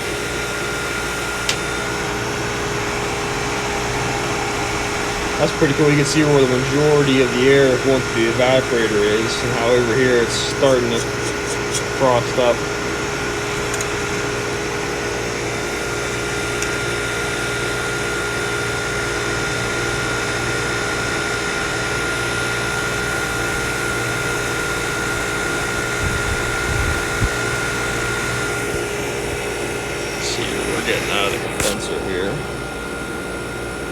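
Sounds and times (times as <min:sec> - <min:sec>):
air conditioner compressor humming: 0:00.0 - 0:33.9
fan air rushing: 0:00.0 - 0:33.9.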